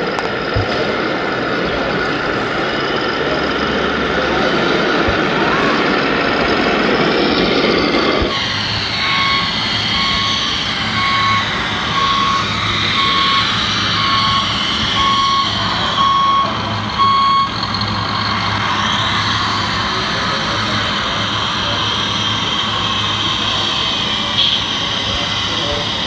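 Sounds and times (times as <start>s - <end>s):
low engine hum: 0.0s - 26.0s
reversing alarm beeping: 0.0s - 26.0s.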